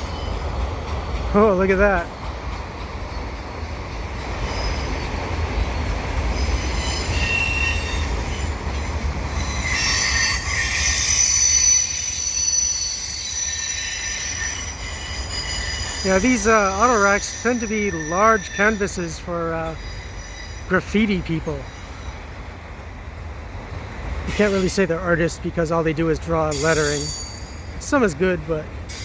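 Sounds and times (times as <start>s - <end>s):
steel wheels squealing on rails: 0.0s - 22.6s, 23.7s - 29.0s
freight train rumbling past: 0.0s - 29.0s.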